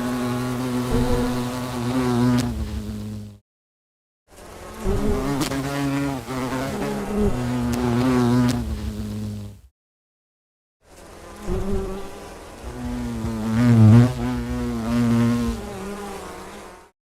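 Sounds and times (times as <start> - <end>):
honey bees buzzing: 0.0 - 3.4, 4.3 - 9.5, 10.9 - 16.9.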